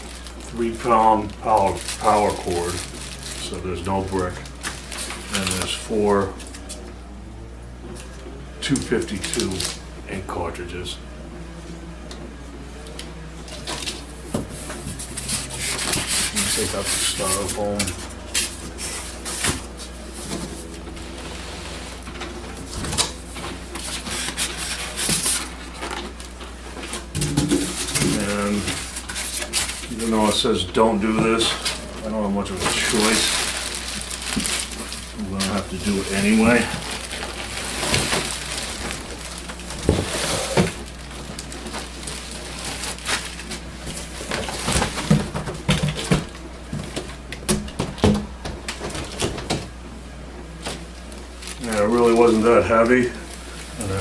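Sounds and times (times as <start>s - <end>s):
styrofoam scraping and rustling: 0.0s - 6.8s, 8.7s - 9.8s, 13.5s - 47.2s, 50.7s - 54.0s
plastic wrapping crinkling: 0.0s - 6.9s, 8.0s - 9.8s, 12.9s - 49.6s, 50.6s - 54.0s.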